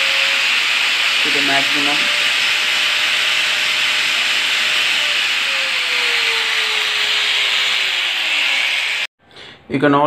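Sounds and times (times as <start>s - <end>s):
angle grinder motor whine: 0.0s - 9.1s.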